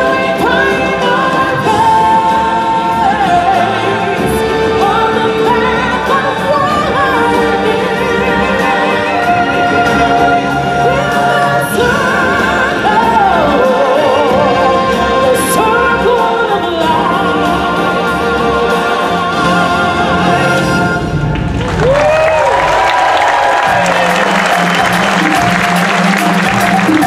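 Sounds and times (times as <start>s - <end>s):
voices singing with vibrato: 0.0s - 21.2s, 22.6s - 27.0s
orchestral backing track: 0.0s - 27.0s.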